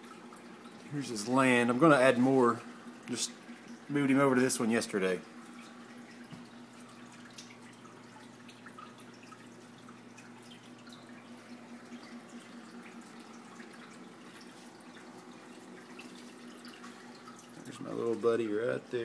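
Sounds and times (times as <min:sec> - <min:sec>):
aquarium filter hum: 0:00.0 - 0:19.0
water trickling and bubbling: 0:00.0 - 0:19.0.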